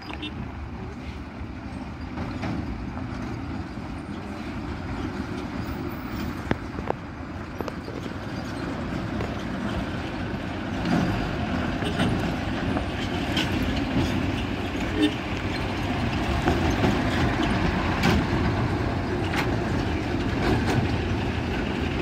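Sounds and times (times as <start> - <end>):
lorry diesel engines rumbling: 0.0 - 22.0.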